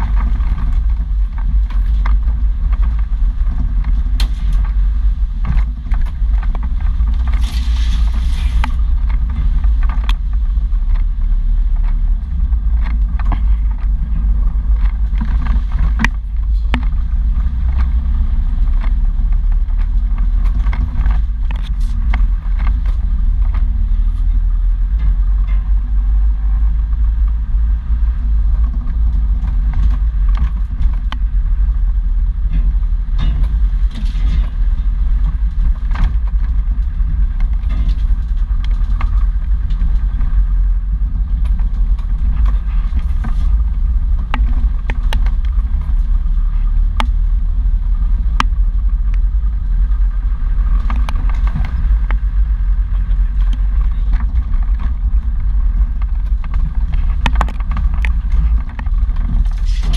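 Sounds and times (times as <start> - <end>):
engine and drivetrain rumble: 0.0 - 59.9
knocks and rattles over bumps: 0.0 - 59.9.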